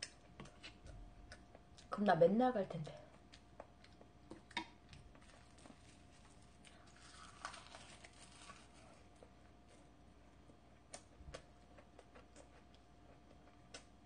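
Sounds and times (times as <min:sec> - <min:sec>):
crackly chewing: 0:00.0 - 0:02.0, 0:02.8 - 0:14.0.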